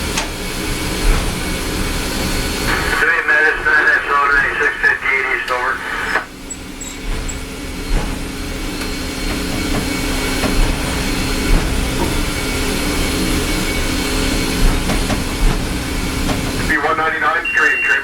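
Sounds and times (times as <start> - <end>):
steam locomotive rumble and hiss: 0.0 - 18.0.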